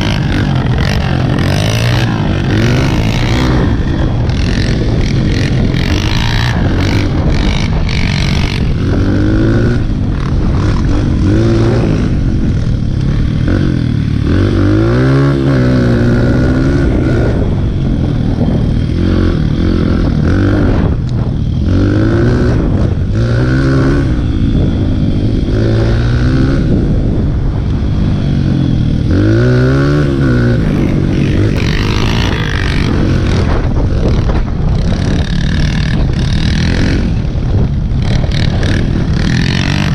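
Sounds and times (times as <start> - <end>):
constant rushing noise: 0.0 - 39.9
dirt bike engine revving: 0.0 - 39.9.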